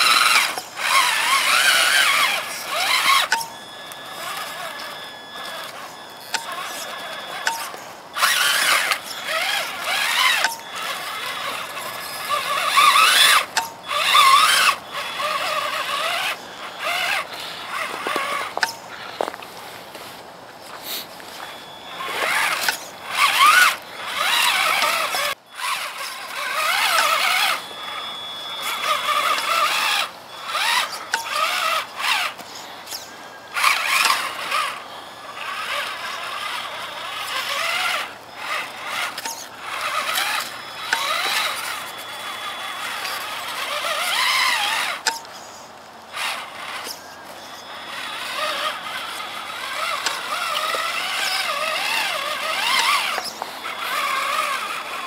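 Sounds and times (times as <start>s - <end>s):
toy truck electric motor whining: 0.0s - 55.0s.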